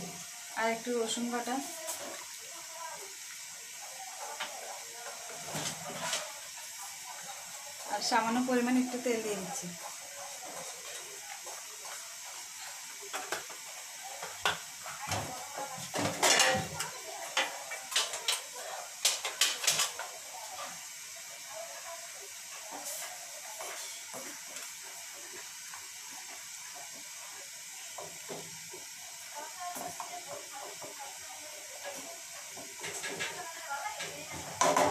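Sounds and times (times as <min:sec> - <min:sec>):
gas burner hissing: 0:00.0 - 0:34.9.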